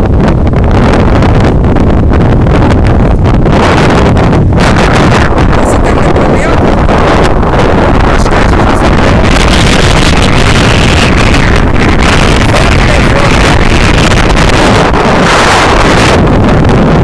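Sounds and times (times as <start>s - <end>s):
wind blowing onto microphone: 0.0s - 17.0s.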